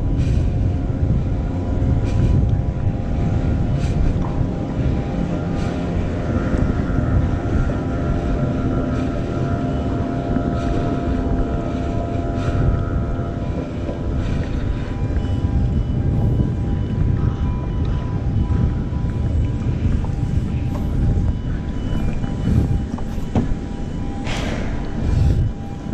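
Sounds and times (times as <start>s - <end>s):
engine rumbling steadily: 0.0s - 25.9s
wind buffeting microphone: 0.0s - 25.9s.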